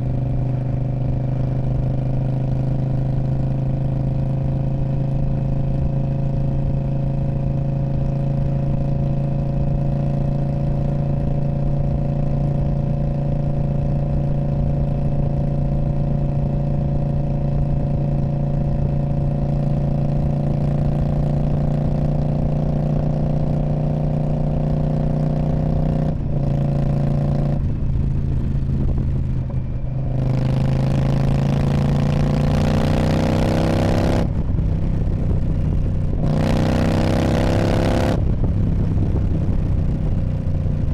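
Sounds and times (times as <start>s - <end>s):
motorcycle exhaust note: 0.0s - 40.9s.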